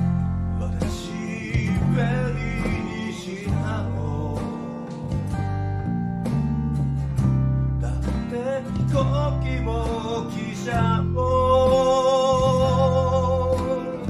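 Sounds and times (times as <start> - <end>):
acoustic guitar strumming: 0.0 - 14.0
electric bass line: 0.0 - 14.0
keyboard: 0.0 - 14.0
man singing: 0.4 - 5.6, 7.8 - 14.0.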